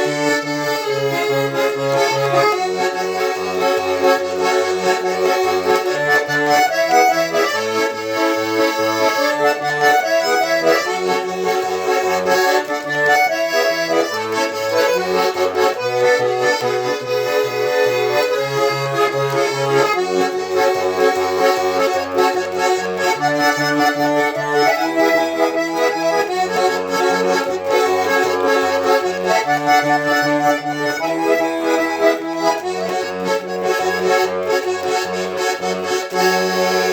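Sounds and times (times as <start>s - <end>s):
button accordion melody: 0.0s - 36.9s.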